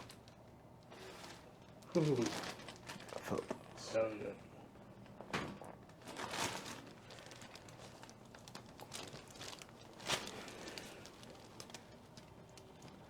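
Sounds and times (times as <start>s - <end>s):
rustling and crinkling on a table: 0.0s - 4.0s, 5.0s - 13.0s.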